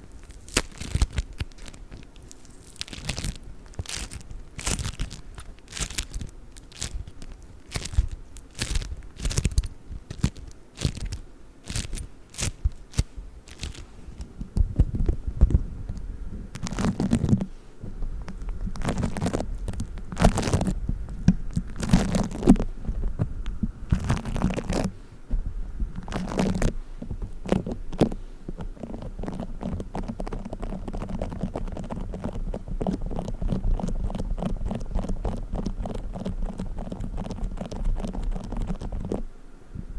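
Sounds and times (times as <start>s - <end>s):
play foam crackling and rubbing: 0.0s - 39.3s.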